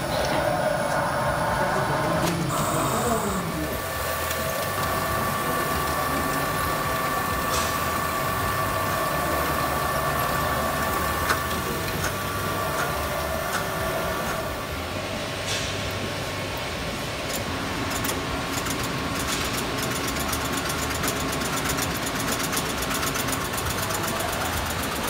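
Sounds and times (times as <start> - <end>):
constant machine whine: 0.0 - 25.0
conveyor mechanical clatter: 0.0 - 25.0.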